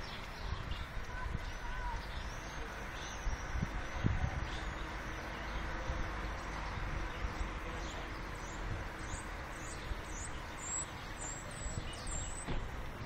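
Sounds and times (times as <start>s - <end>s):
birds chirping and whistling: 0.0s - 13.0s
low outdoor background noise: 0.0s - 13.0s.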